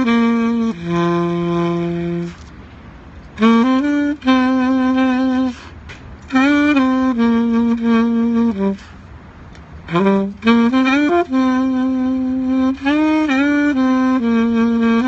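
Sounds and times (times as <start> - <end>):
saxophone playing hymn melody: 0.0 - 15.0.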